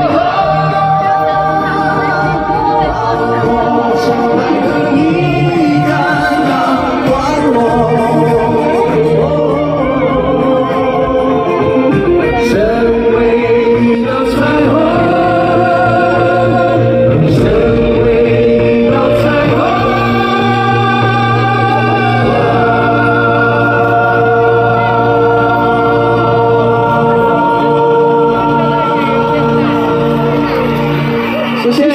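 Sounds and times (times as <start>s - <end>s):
live pop-rock band: 0.0s - 31.9s
man singing with vibrato: 0.0s - 31.9s.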